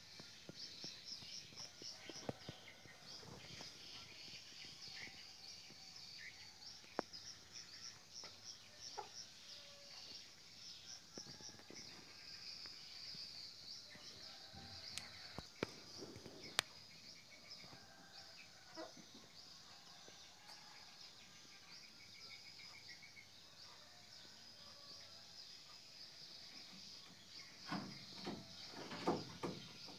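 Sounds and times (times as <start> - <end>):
insects chirping: 0.0 - 29.9.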